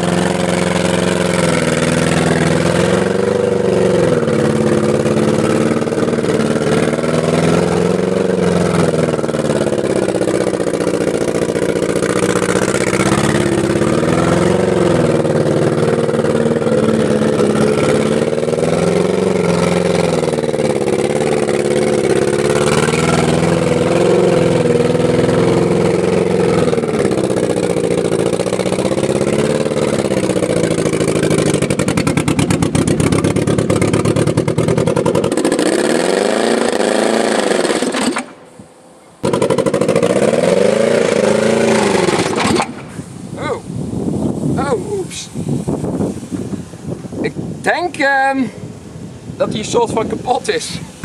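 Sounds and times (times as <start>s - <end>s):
car engine revving under load: 0.0s - 44.5s.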